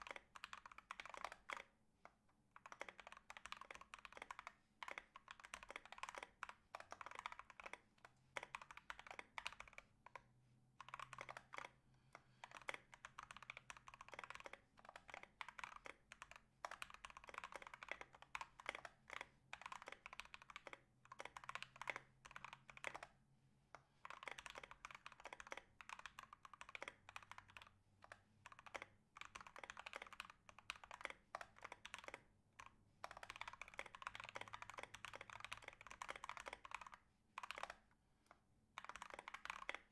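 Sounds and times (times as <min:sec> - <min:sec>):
fast typing on mechanical keyboard: 0:00.0 - 0:01.7, 0:02.6 - 0:11.8, 0:12.4 - 0:23.2, 0:24.0 - 0:37.9, 0:38.8 - 0:39.9.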